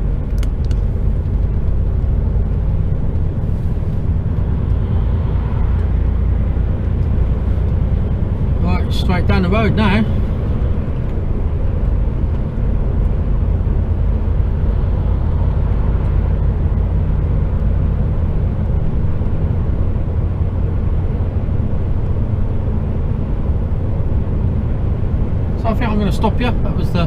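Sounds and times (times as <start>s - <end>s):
diesel engine droning in cab: 0.0s - 27.0s
tyre road noise: 0.0s - 27.0s.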